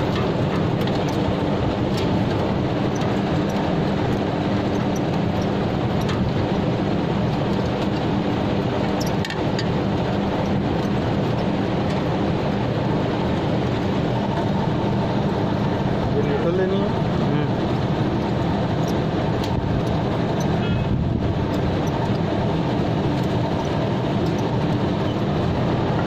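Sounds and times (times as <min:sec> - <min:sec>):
machinery drone: 0:00.0 - 0:26.0.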